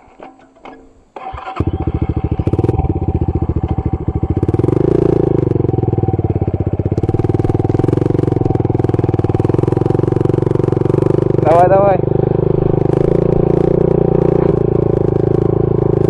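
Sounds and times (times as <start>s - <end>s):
motorbike engine chuffing: 1.2s - 16.0s.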